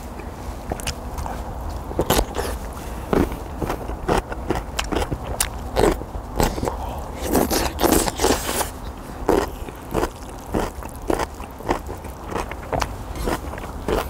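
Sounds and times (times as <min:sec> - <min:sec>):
chewing and slurping noodles: 0:00.6 - 0:14.0.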